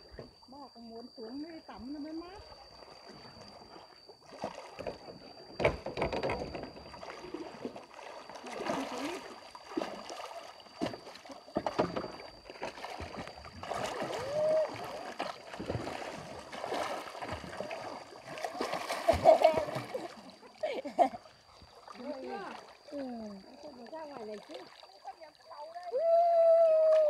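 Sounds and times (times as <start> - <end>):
paddles splashing in water: 2.7 - 27.0.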